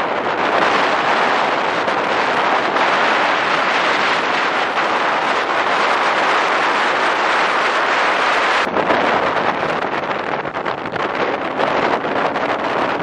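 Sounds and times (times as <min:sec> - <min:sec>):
wind and tyre noise: 0:00.0 - 0:13.0.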